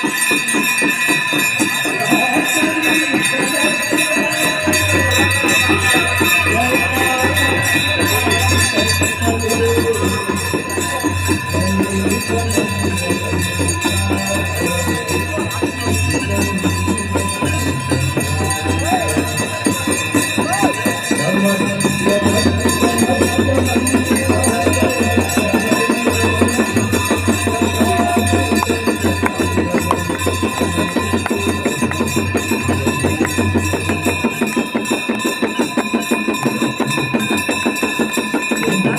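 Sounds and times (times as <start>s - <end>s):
fast steady drum beat: 0.0s - 38.9s
hand bells ringing: 0.0s - 38.9s.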